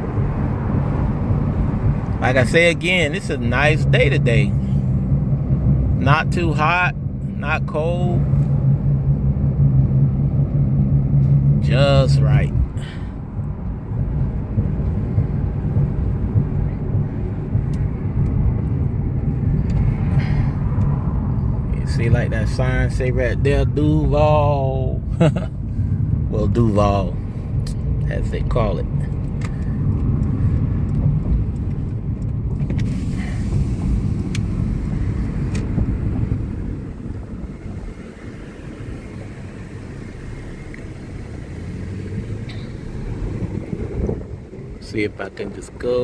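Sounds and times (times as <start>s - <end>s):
road and wind rumble in car: 0.0s - 46.0s.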